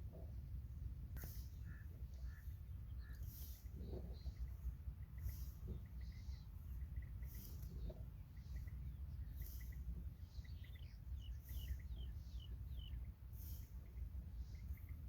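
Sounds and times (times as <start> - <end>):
bird chirps: 1.6 - 15.0.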